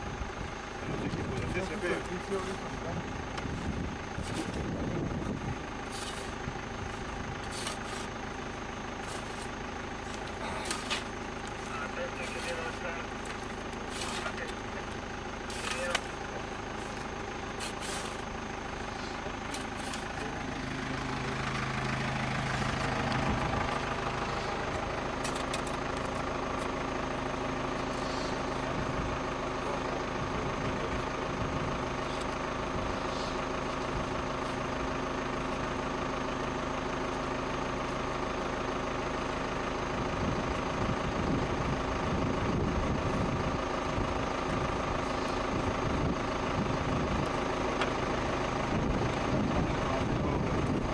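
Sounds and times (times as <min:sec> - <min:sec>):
engine humming steadily: 0:00.0 - 0:50.9.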